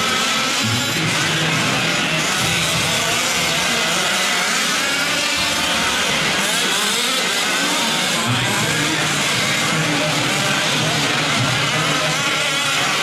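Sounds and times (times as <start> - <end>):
small two-stroke engines buzzing: 0.0 - 13.0.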